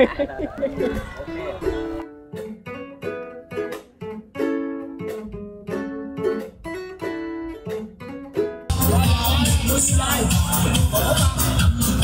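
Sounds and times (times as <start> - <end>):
plucked string melody: 0.6 - 12.0.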